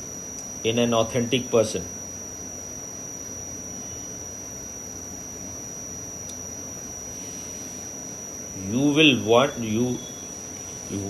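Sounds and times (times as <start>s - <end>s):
faint high-pitched electrical whine: 0.0s - 11.0s.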